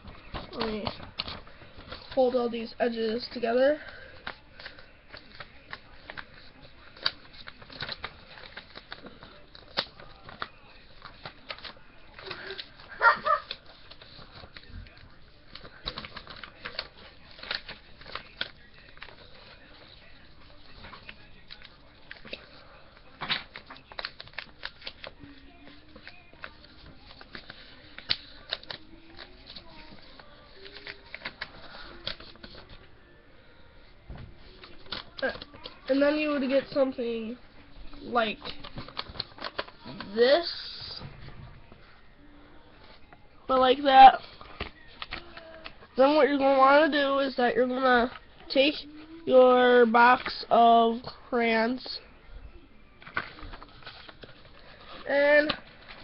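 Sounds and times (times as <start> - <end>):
paper crinkling and rustling: 0.0 - 33.0, 33.6 - 42.0, 42.7 - 51.2, 53.0 - 56.0.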